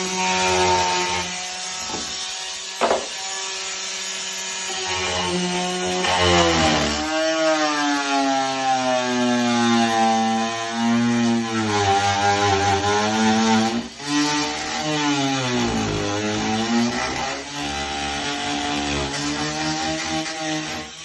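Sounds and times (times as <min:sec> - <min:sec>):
power tool cutting into wall: 0:00.0 - 0:21.0.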